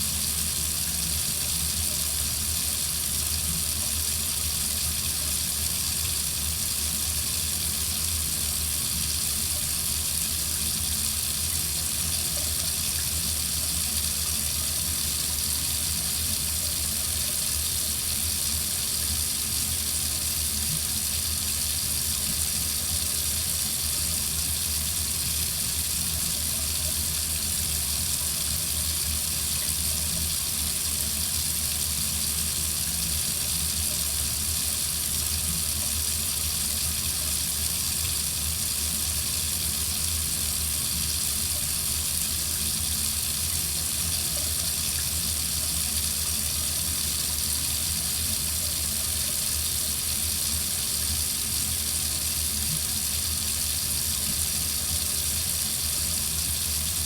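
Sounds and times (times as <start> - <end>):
faucet water running into sink: 0.0 - 57.0.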